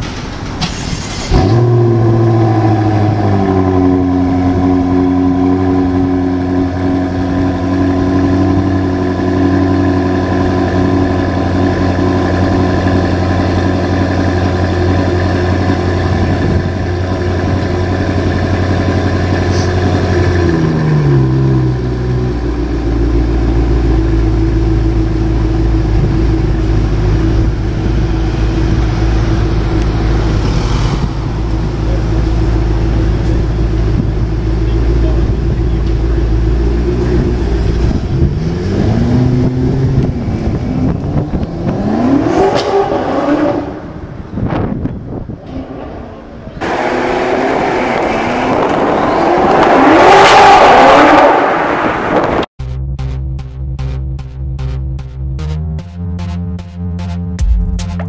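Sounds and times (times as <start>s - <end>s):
car engine starting and idling: 0.0s - 58.0s.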